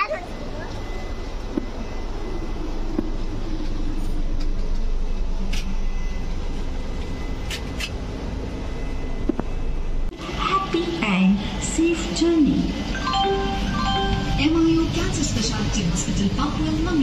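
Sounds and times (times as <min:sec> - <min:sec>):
train coach rumble: 0:00.0 - 0:17.0.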